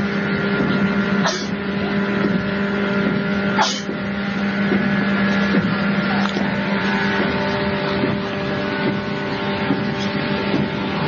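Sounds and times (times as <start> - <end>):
constant low hum: 0.0 - 11.0
train rushing noise: 0.0 - 11.0.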